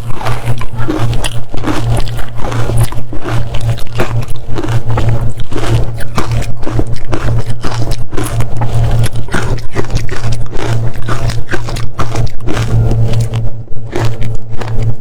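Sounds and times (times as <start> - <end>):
crunching frozen ice: 0.0 - 15.0
steady low hum: 0.0 - 15.0.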